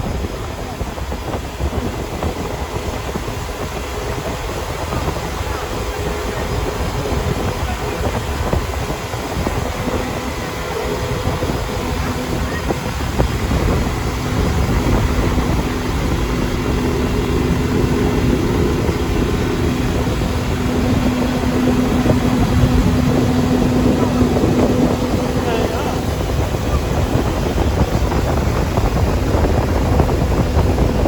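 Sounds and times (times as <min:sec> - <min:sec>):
boat motor humming: 0:00.0 - 0:31.0.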